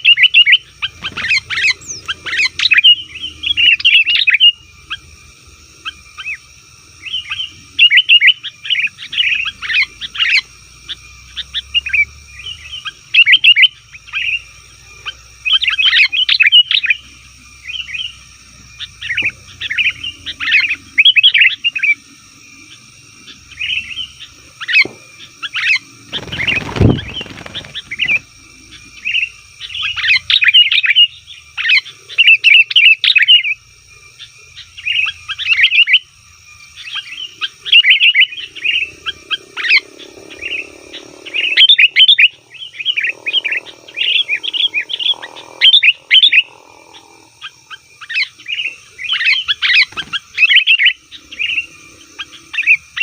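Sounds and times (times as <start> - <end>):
birds calling and chattering: 0.0 - 53.0.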